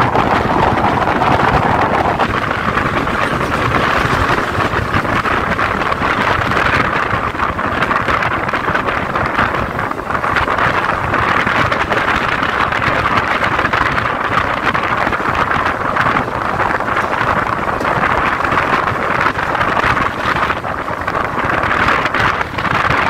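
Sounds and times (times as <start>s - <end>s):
electric train running: 0.0s - 23.0s
wind on microphone: 0.0s - 23.0s.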